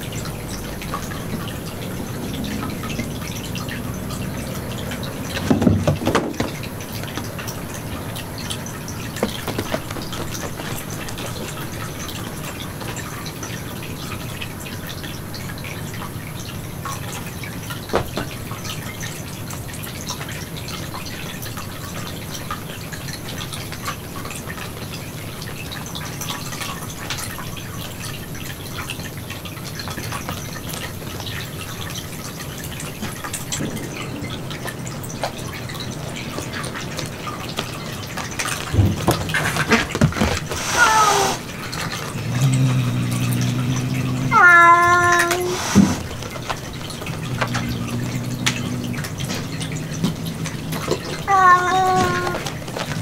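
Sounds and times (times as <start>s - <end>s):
trickle of running water: 0.0s - 53.0s.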